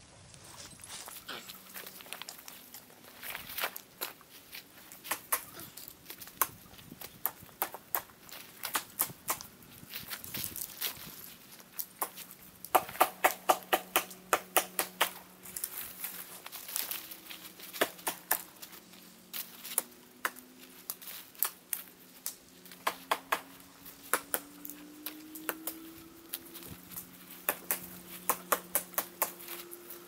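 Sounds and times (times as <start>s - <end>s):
twigs snapping and crackling: 0.8s - 30.0s.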